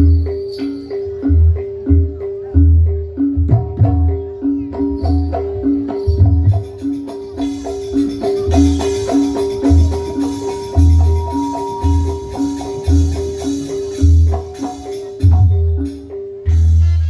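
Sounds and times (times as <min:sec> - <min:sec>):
metallophones playing: 0:00.0 - 0:17.0.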